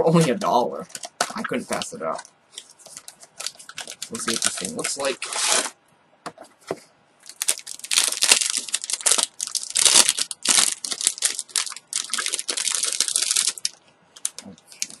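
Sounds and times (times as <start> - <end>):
plastic bag crinkling: 0.3 - 5.8, 7.2 - 15.0.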